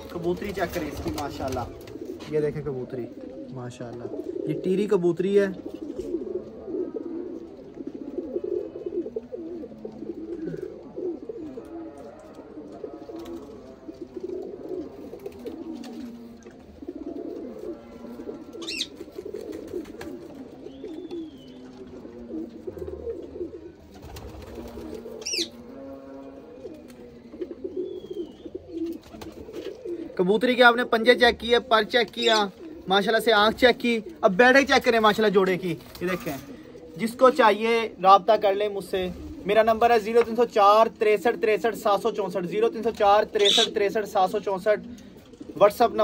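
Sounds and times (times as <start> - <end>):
pigeons cooing: 0.0 - 46.0.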